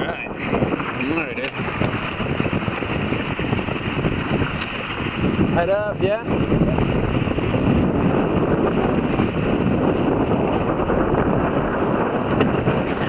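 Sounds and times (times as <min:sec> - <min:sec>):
water rushing past hulls: 0:00.0 - 0:13.0
wind buffeting microphone: 0:00.0 - 0:13.0.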